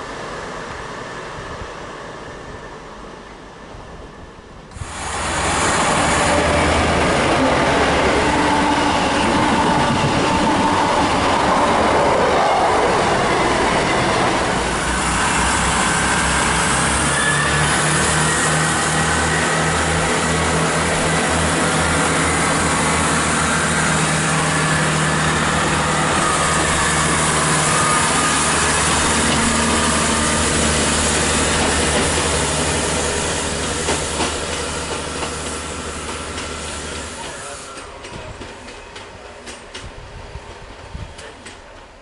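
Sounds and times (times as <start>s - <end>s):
diesel train engines running: 4.6s - 42.0s
wheels on rail: 4.7s - 42.0s.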